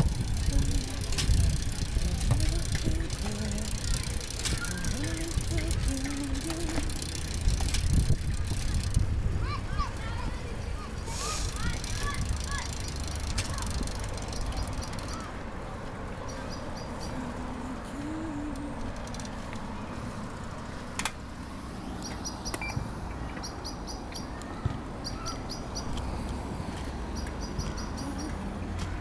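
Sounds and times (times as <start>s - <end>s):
wind and tyres rumbling: 0.0s - 29.0s.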